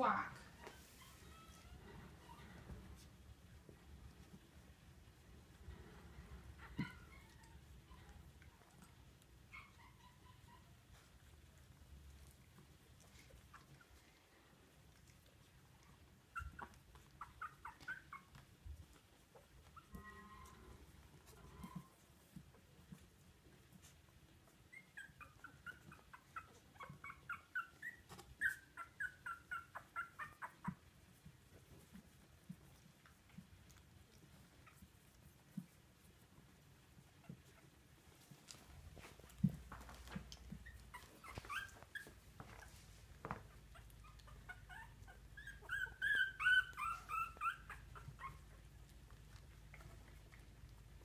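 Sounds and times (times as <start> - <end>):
puppy whimpering: 0.0 - 4.5, 6.5 - 51.0.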